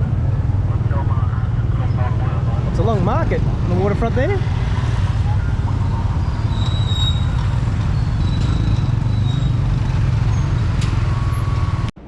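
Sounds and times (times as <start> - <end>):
motor vehicles rumbling: 0.0 - 12.0
road noise: 0.0 - 12.0.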